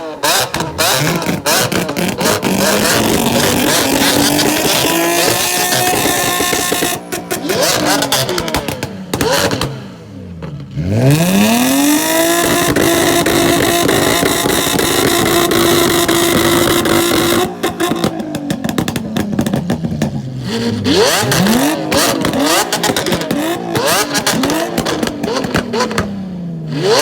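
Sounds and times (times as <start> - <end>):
car engine revving: 0.0 - 27.0
exhaust pops and crackles: 0.2 - 10.8, 11.4 - 27.0.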